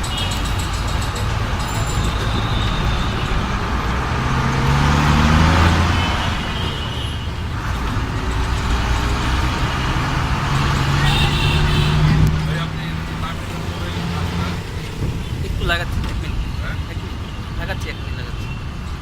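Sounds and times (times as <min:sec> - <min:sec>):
vehicle passing close: 0:00.0 - 0:06.6, 0:07.4 - 0:16.6
road traffic noise: 0:00.0 - 0:19.0.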